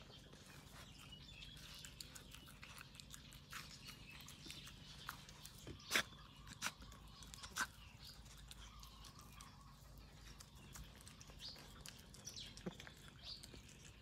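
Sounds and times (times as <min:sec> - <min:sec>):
dog crunching food: 0:00.0 - 0:14.0.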